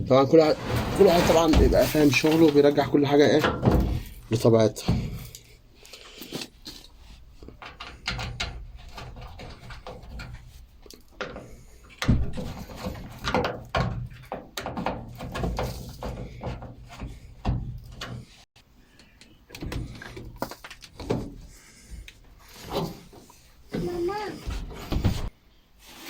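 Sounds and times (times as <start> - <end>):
parts and tools knocking and rattling: 0.3 - 5.6, 6.3 - 25.3.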